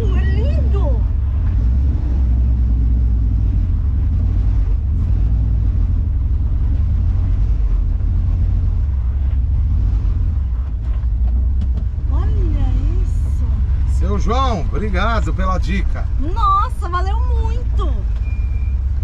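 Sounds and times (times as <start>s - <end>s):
van engine low rumble: 0.0s - 19.0s.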